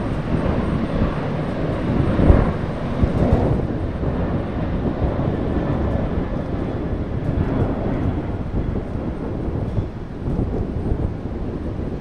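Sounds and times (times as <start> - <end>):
airliner engines rumbling: 0.0 - 12.0.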